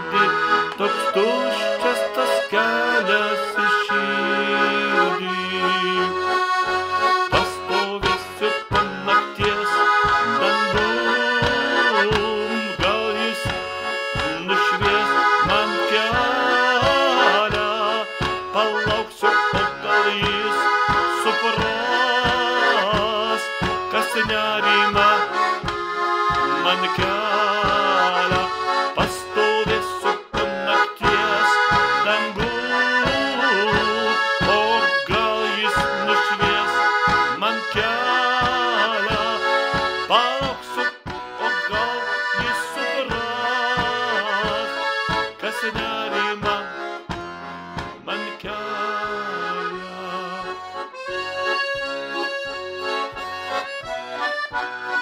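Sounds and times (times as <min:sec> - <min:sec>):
accordion playing: 0:00.0 - 0:55.0.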